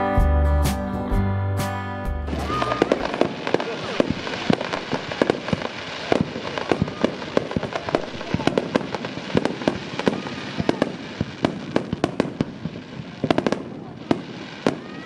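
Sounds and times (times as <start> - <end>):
fireworks bangs: 2.3 - 15.0.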